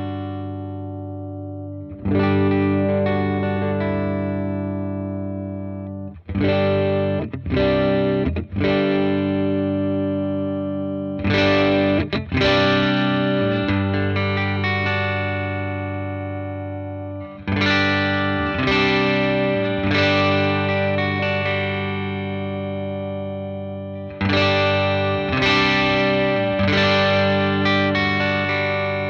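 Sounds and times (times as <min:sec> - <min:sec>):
electric guitar chords ringing: 0:00.0 - 0:29.0.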